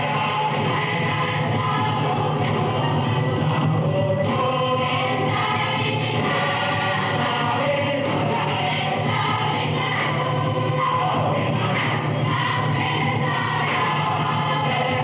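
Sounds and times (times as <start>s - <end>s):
group of voices singing: 0.0s - 15.0s
steady musical accompaniment: 0.0s - 15.0s.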